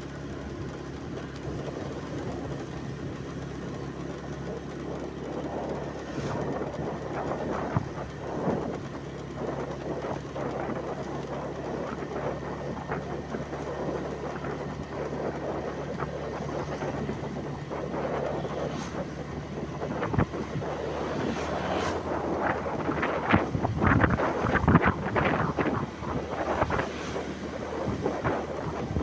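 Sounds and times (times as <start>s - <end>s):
vehicle running noise: 0.0s - 29.0s
wind on microphone: 0.1s - 29.0s.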